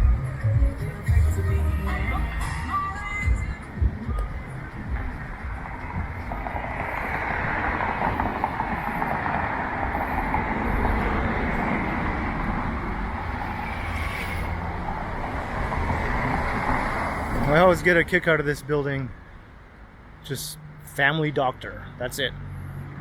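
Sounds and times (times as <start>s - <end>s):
street traffic passing: 0.0s - 23.0s.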